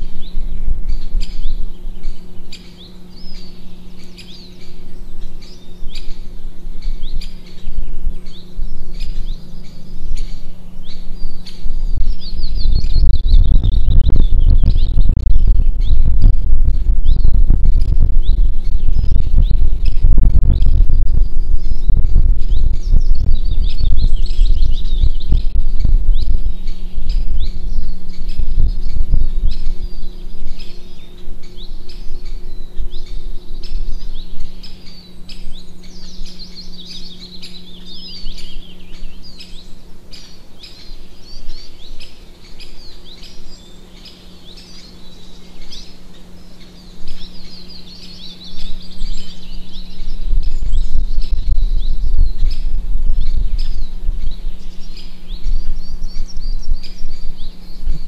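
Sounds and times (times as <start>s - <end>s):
heavy low rumbling: 0.0s - 40.3s, 44.4s - 58.0s
small birds chirping: 0.0s - 58.0s
steady low hum: 0.0s - 58.0s.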